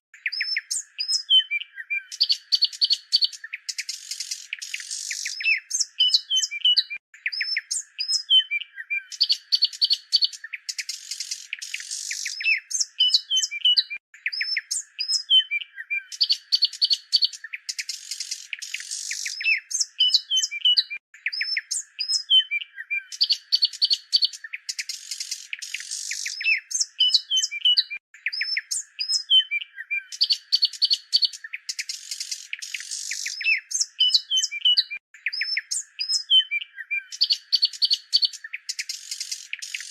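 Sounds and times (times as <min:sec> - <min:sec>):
small birds chirping and twittering: 0:00.1 - 0:39.9.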